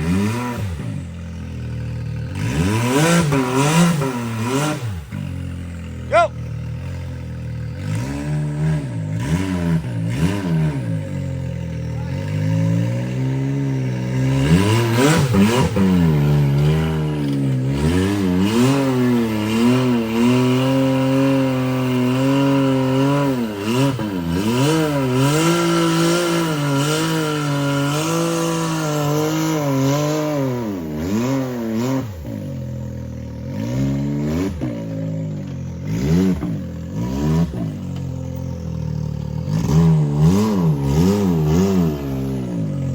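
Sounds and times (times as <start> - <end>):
utility vehicle engine revving: 0.0 - 42.9.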